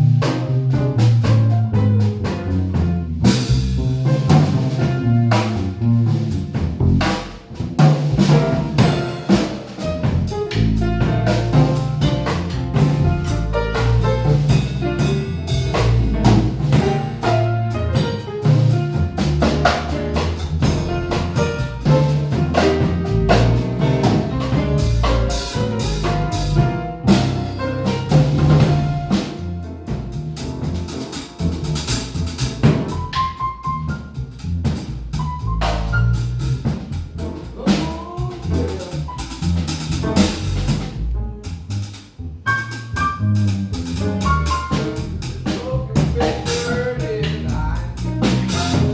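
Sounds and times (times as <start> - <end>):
jazz trio playing: 0.0 - 48.9
drum and cymbal strikes: 3.2 - 48.9.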